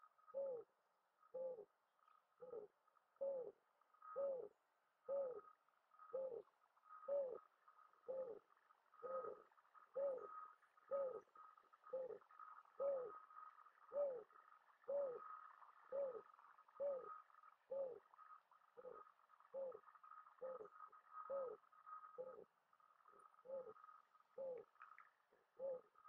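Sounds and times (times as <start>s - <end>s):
dove cooing: 0.0s - 0.7s, 1.3s - 1.7s, 2.4s - 26.0s.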